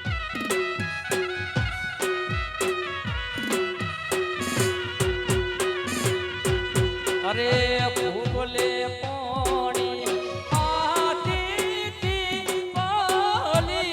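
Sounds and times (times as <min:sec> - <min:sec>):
folk drum beat: 0:00.0 - 0:13.9.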